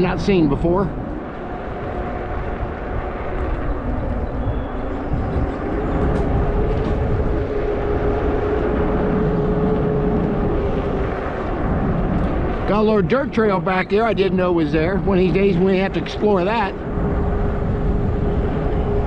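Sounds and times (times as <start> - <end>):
steady hum: 0.0 - 19.0
wind rushing over microphone: 0.0 - 19.0.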